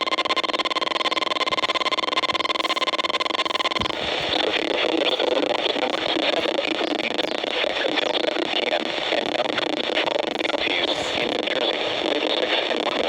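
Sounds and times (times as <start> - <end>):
radio static hiss with crackles: 0.0 - 13.0.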